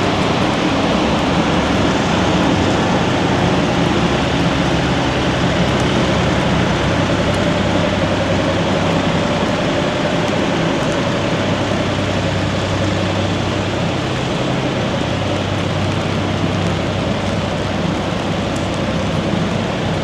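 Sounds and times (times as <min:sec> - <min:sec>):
wind and rain rushing: 0:00.0 - 0:20.0.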